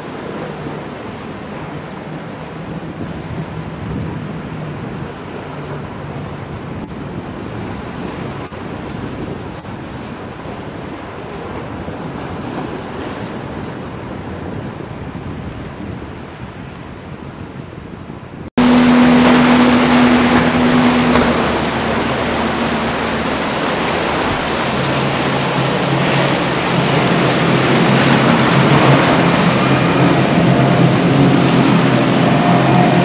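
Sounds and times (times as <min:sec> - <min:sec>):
boat engine drone: 0:00.0 - 0:14.6, 0:18.5 - 0:33.0
breaking waves and boat wake: 0:00.0 - 0:33.0
rush of churned water: 0:00.0 - 0:33.0
wind buffeting microphone: 0:00.0 - 0:33.0.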